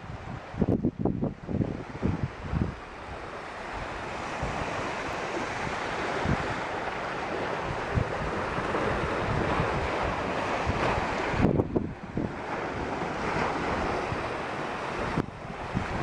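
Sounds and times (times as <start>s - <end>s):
small waves washing on beach: 0.0s - 16.0s
wind buffeting microphone: 0.0s - 16.0s.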